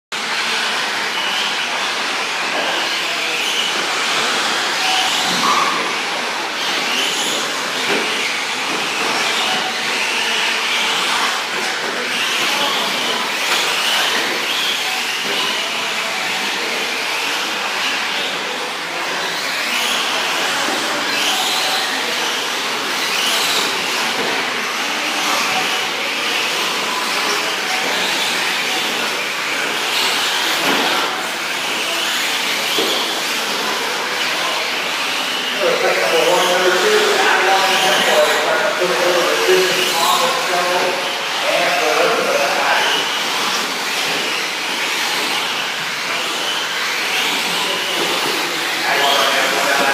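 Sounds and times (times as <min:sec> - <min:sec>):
electric motors whining: 0:00.2 - 0:49.9.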